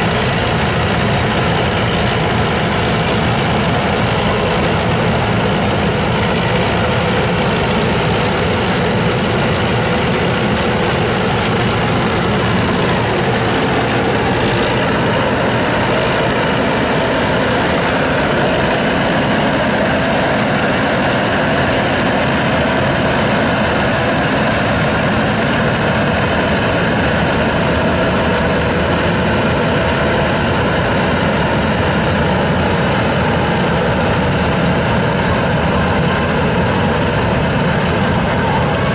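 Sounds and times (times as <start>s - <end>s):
combine harvester droning: 0.0s - 38.9s.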